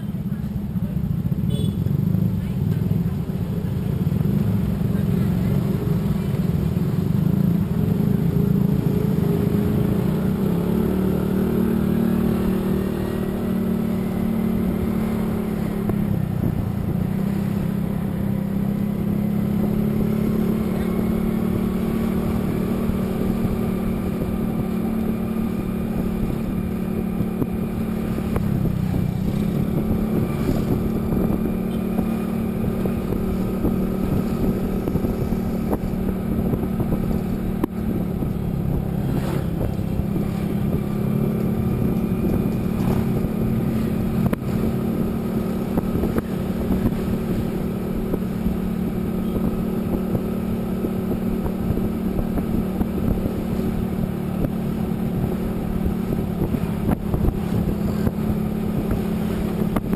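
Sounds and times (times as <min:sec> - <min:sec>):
road noise: 0:00.0 - 0:59.9
vehicle engine cruising: 0:00.0 - 0:59.9.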